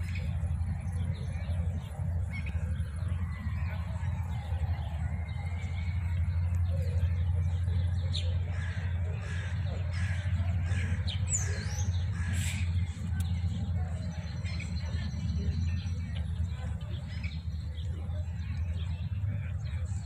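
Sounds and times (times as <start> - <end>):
low rumble: 0.0 - 20.0
small birds chirping: 0.0 - 20.0.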